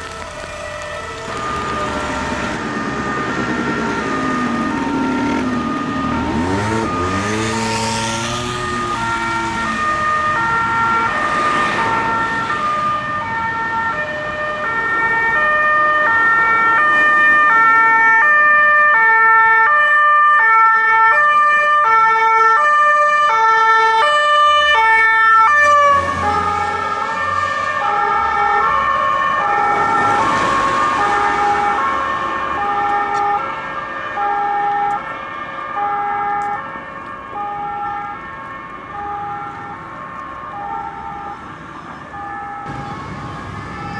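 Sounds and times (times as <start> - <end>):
two-tone police siren: 0.0 - 43.9.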